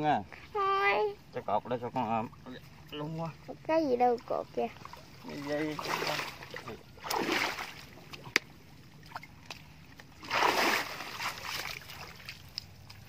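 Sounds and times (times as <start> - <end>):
shallow water splashing: 1.8 - 13.0.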